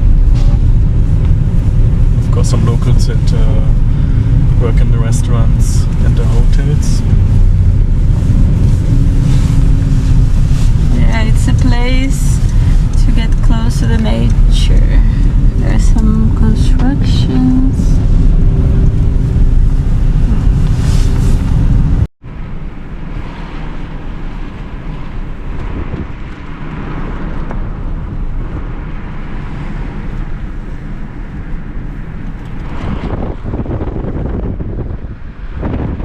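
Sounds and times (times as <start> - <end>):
steady rushing wind: 0.0 - 36.0
wind buffeting microphone: 0.0 - 36.0.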